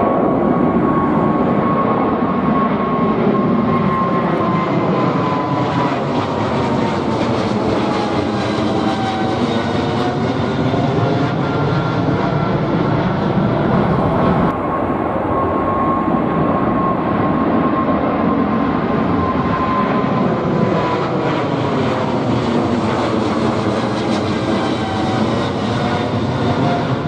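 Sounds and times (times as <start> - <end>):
jet airliner engine roar: 0.0 - 27.0.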